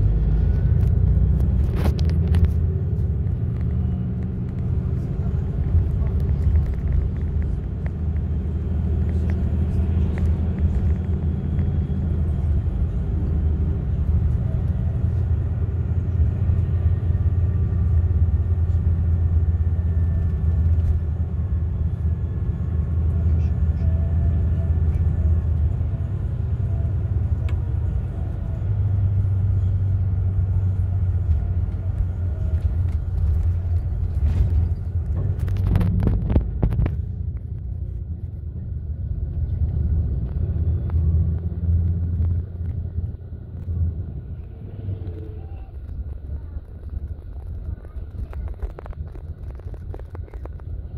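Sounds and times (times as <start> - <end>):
bus engine drone: 0.0 - 50.9
road rumble: 0.0 - 50.9.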